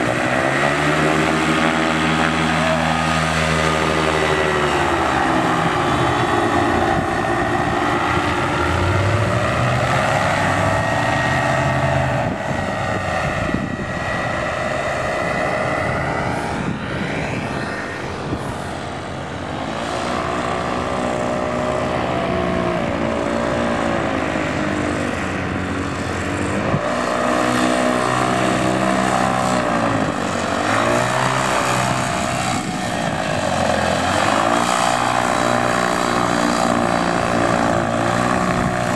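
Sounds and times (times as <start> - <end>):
paramotor engines passing: 0.0 - 38.9.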